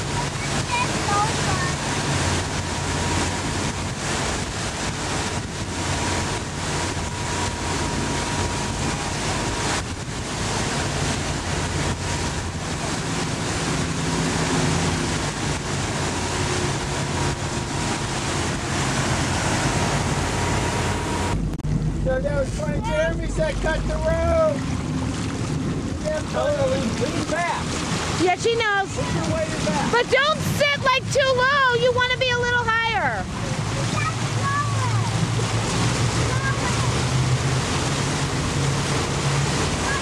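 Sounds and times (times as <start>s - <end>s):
motorboat engine droning: 0.0s - 40.0s
rushing water: 0.0s - 40.0s
wind buffeting microphone: 0.0s - 40.0s.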